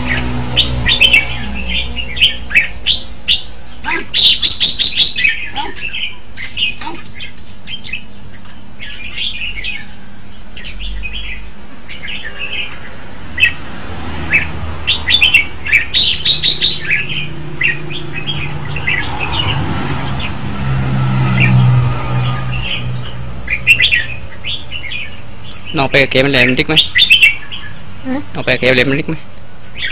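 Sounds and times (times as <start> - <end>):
bird singing bright chirps: 0.0 - 13.6, 14.2 - 20.4, 21.2 - 29.9.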